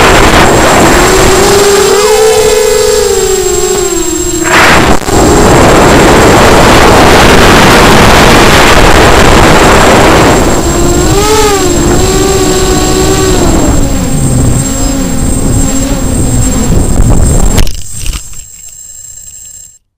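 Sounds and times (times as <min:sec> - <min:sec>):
wind rush over microphone: 0:00.0 - 0:18.4
quadcopter motors whining: 0:00.0 - 0:18.8.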